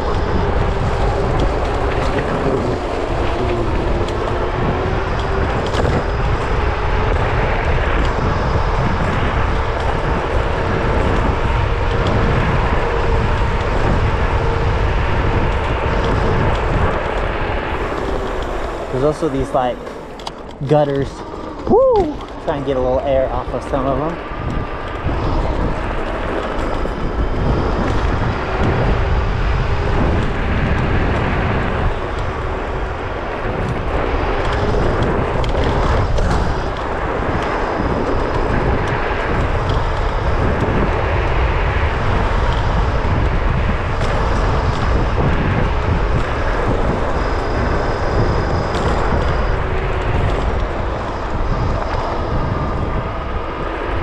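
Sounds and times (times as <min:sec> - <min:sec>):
electric motor whine: 0:00.0 - 0:54.0
tyre noise: 0:00.0 - 0:54.0
wind rushing over microphone: 0:00.0 - 0:54.0.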